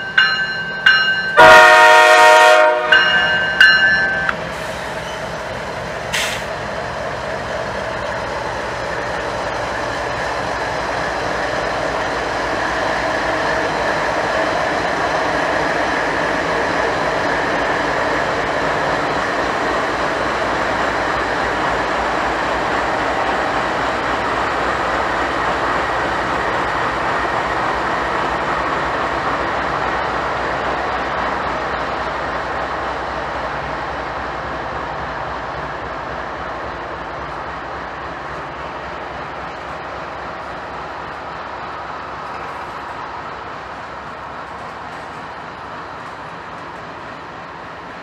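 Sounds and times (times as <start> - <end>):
train wheels on rails: 0.0 - 48.0.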